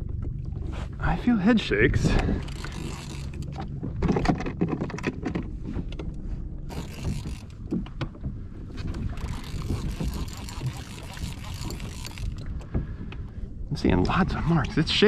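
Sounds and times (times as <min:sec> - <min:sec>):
water sloshing around kayak: 0:00.0 - 0:15.0
wind on microphone: 0:01.8 - 0:15.0.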